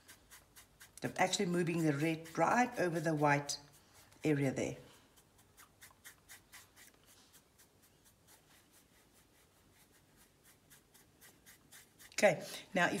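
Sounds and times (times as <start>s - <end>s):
paintbrush strokes on canvas: 0.0s - 13.0s.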